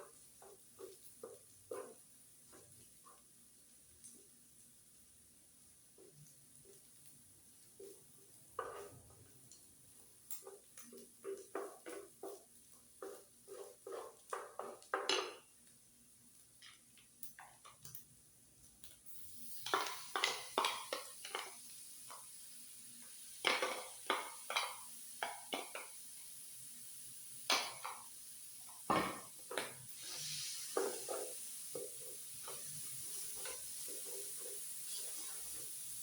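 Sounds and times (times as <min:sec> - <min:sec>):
food sizzling: 0:00.0 - 0:18.1, 0:18.7 - 0:36.0.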